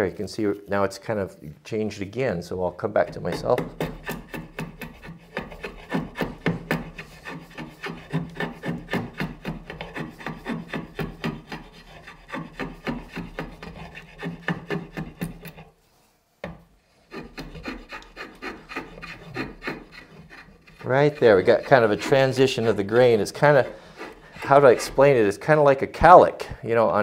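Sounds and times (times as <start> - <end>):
spokeshave scraping wood: 2.9 - 16.0, 16.9 - 25.6.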